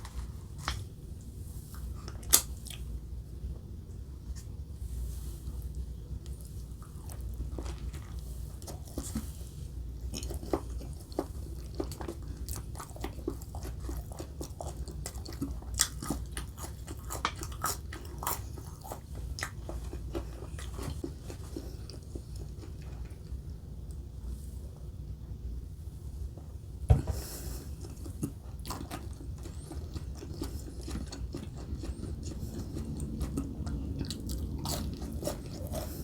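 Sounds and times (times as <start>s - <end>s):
chewing with crunches: 0.0s - 3.2s, 4.2s - 24.0s, 27.1s - 36.0s.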